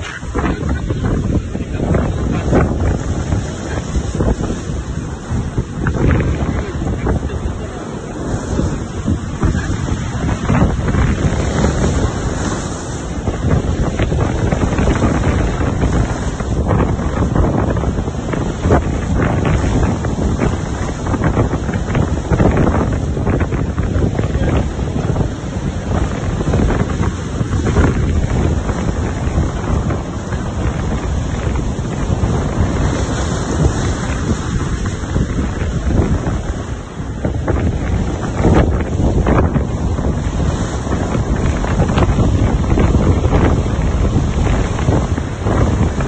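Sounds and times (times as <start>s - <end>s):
surf washing against rocks: 0.0s - 46.0s
wind buffeting microphone: 0.0s - 46.0s.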